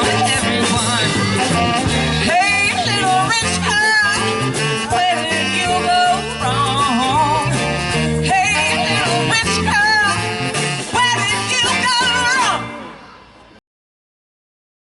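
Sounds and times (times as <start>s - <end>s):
bass notes: 0.0s - 13.1s
bending lead melody: 0.0s - 13.1s
live band playing: 0.0s - 13.6s.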